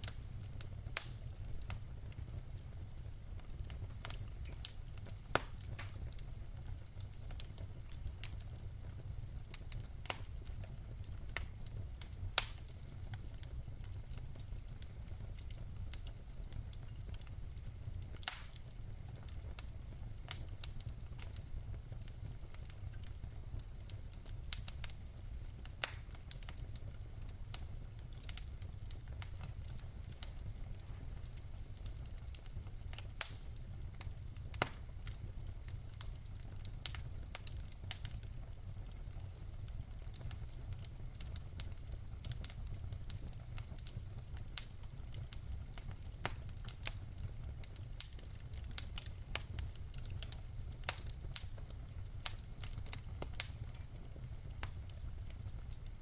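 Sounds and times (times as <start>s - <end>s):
burning logs crackling and popping: 0.0s - 56.0s
flames rumbling: 0.0s - 56.0s.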